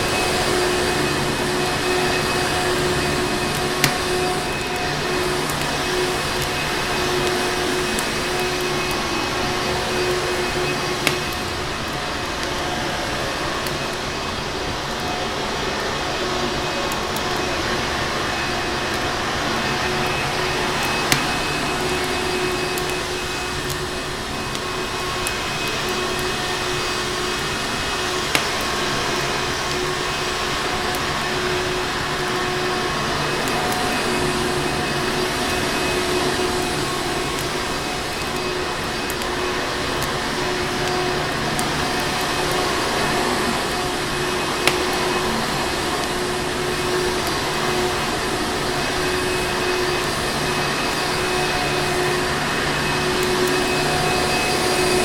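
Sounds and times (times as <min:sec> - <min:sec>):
fire crackling pops: 0:00.0 - 0:50.1
vacuum cleaner motor running: 0:00.0 - 0:55.0.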